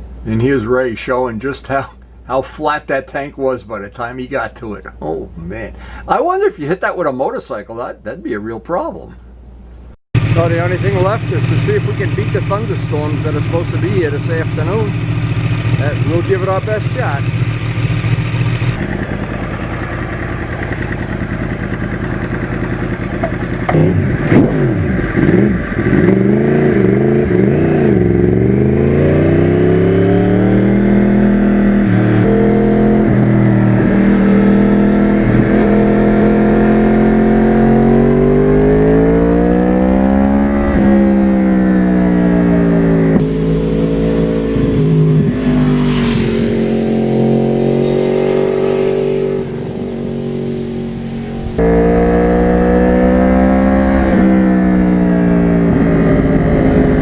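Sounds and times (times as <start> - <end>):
motorcycle engine revving and accelerating: 10.2 - 57.0.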